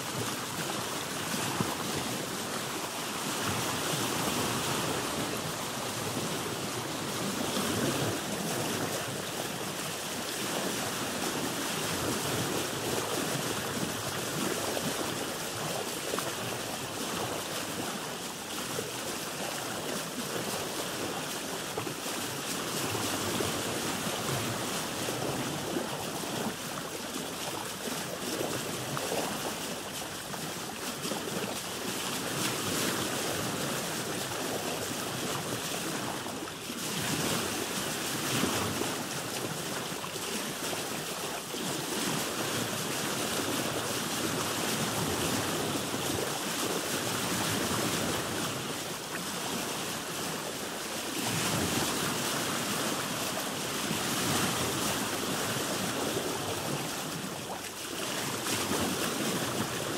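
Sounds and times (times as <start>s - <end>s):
sea waves washing around boat: 0.0s - 59.9s.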